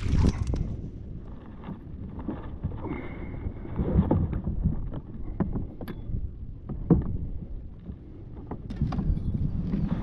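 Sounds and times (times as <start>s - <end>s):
water sloshing against a hull: 0.0s - 10.0s.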